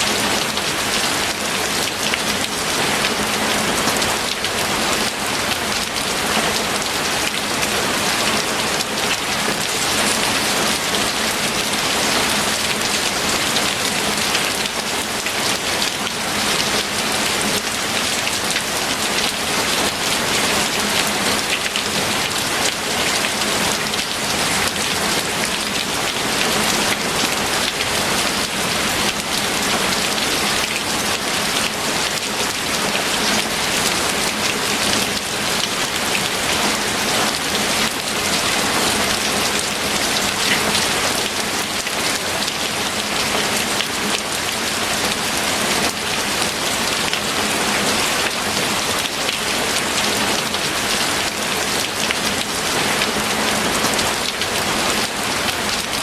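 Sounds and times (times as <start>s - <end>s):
heavy rain on a surface: 0.0s - 56.0s.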